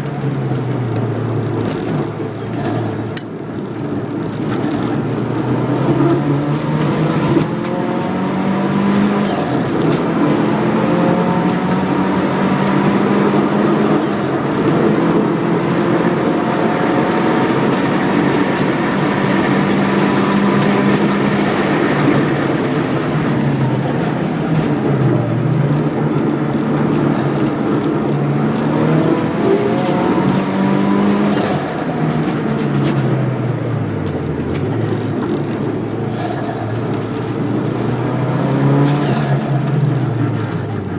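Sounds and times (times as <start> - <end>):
car engine running hard: 0.0 - 40.9.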